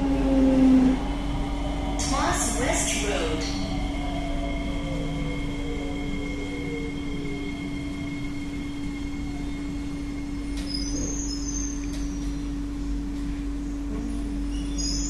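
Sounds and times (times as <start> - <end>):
traction motor whine: 0.0 - 12.4
train interior hum: 0.0 - 15.0.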